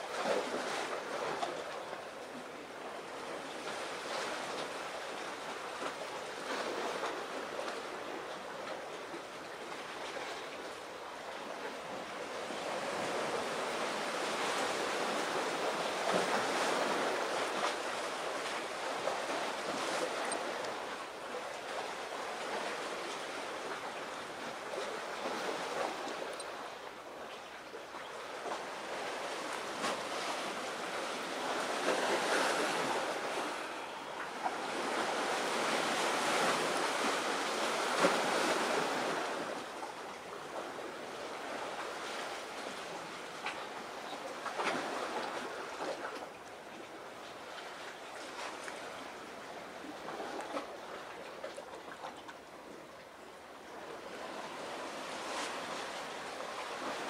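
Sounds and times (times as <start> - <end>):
sea waves washing ashore: 0.0 - 57.0.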